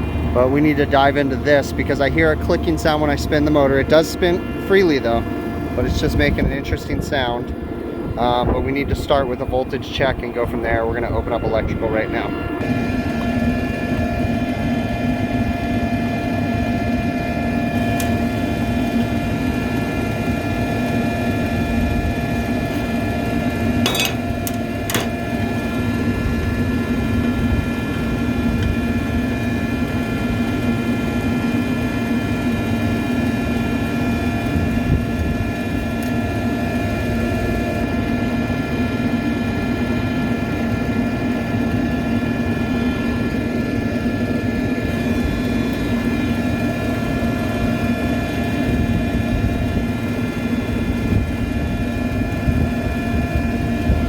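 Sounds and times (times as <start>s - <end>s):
exhaust fans humming: 0.0s - 54.0s.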